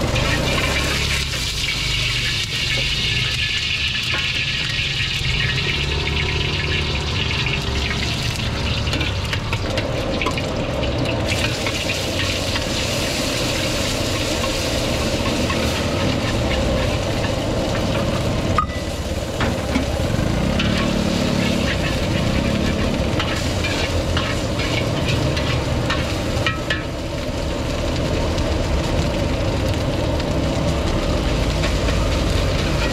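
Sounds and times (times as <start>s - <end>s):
metal ladle scraping a wok: 0.0s - 10.4s, 11.3s - 27.0s, 31.6s - 32.9s
food sizzling in a wok: 0.0s - 32.9s
gas burner rumble: 0.0s - 32.9s.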